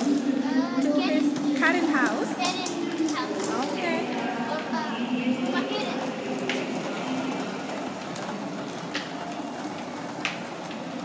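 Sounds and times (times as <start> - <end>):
suitcases rolling on tiled floor: 0.0 - 11.0.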